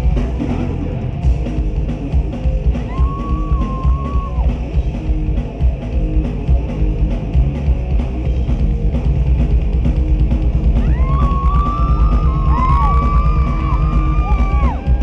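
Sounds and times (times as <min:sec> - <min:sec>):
bass guitar: 0:00.0 - 0:15.0
distorted electric guitars: 0:00.0 - 0:15.0
drum kit: 0:00.0 - 0:15.0.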